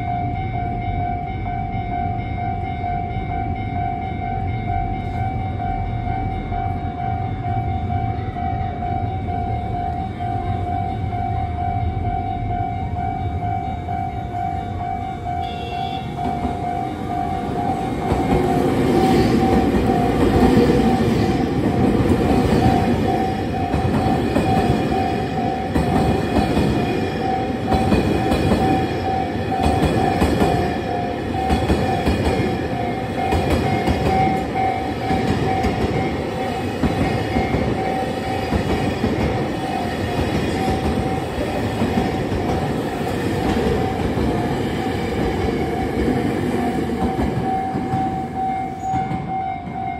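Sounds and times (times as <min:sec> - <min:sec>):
freight train passing: 0:00.0 - 0:49.9
level crossing alarm bell: 0:00.0 - 0:49.9.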